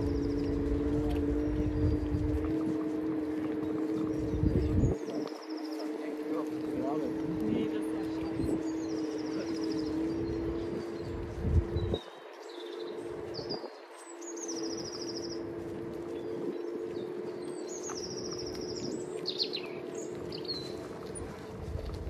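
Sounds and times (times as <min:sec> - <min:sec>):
electric motor hum: 0:00.0 - 0:22.0
songbirds singing: 0:00.0 - 0:22.0.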